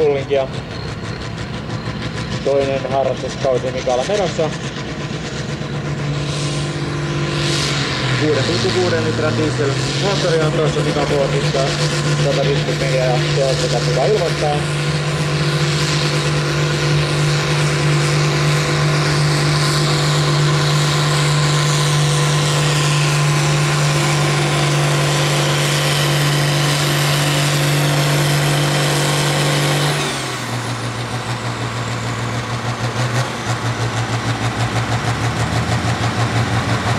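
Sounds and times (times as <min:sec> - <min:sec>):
high whine: 0:00.0 - 0:36.9
tractor diesel engine under load: 0:00.0 - 0:36.9.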